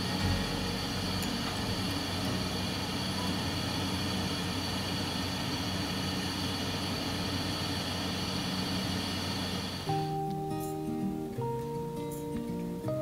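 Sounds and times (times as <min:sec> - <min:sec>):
fan heater blower whirring: 0:00.0 - 0:11.4.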